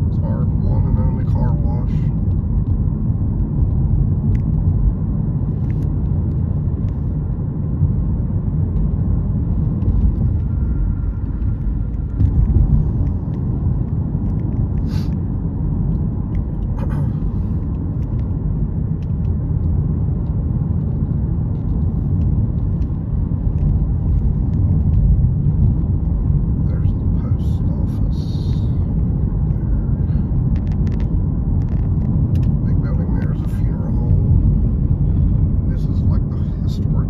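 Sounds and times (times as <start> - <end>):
car cabin road and engine rumble: 0.0 - 37.0.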